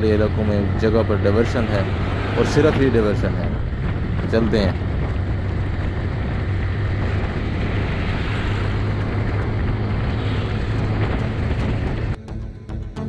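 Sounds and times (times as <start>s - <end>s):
rushing noise: 0.0s - 12.2s
motorcycle engine hum: 0.0s - 13.0s.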